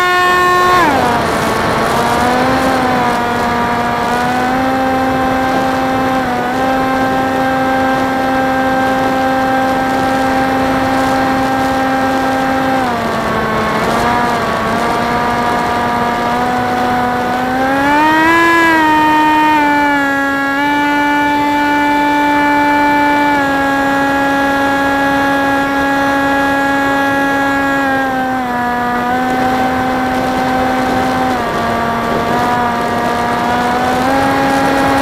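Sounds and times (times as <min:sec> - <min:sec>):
electric motor and propeller whine: 0:00.0 - 0:35.0.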